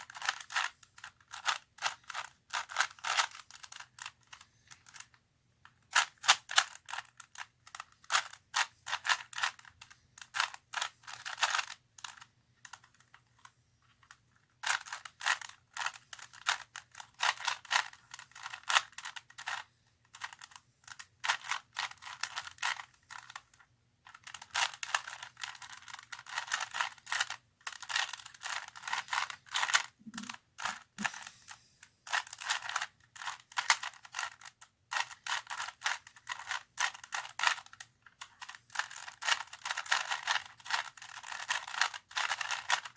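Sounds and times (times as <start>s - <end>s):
plastic puzzle cube clicking: 0.0s - 31.2s, 32.0s - 42.9s.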